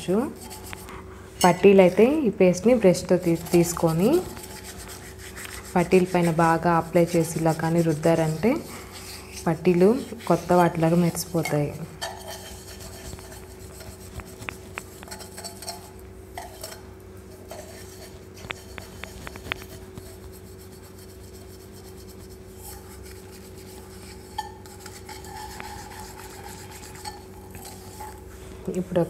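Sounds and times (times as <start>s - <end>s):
hands scrubbing metal tumbler: 3.1s - 16.8s, 17.4s - 28.3s.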